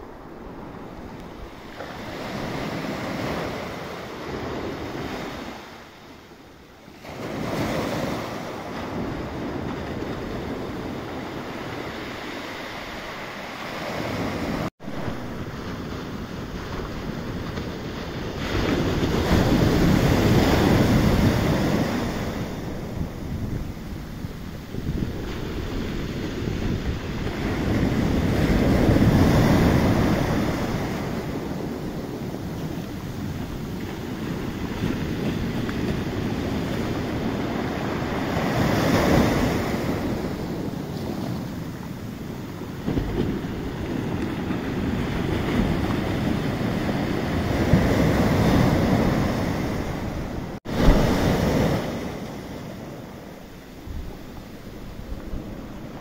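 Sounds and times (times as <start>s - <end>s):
surf washing on beach: 0.0s - 56.0s
wind buffeting microphone: 7.4s - 56.0s.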